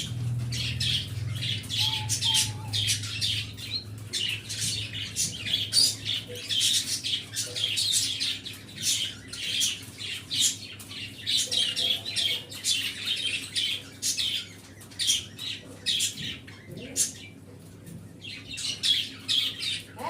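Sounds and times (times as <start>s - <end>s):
small birds chirping and squawking: 0.0s - 20.0s.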